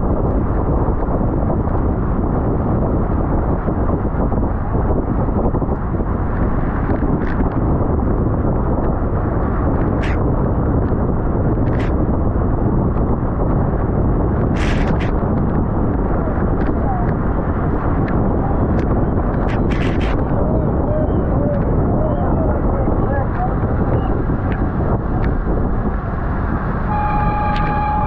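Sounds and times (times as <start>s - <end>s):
wind buffeting the microphone: 0.0s - 28.0s.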